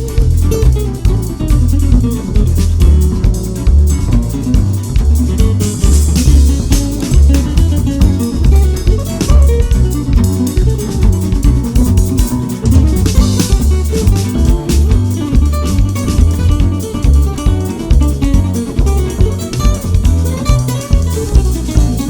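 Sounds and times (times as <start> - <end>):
music with heavy bass beat: 0.0 - 22.0.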